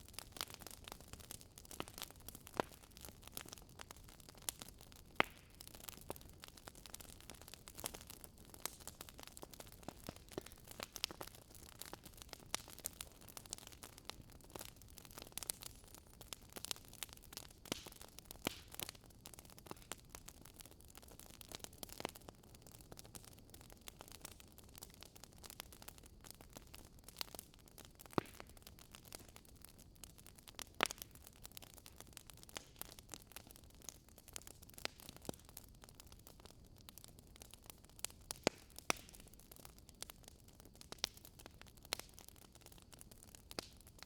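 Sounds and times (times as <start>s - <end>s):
campfire crackling: 0.0s - 44.0s.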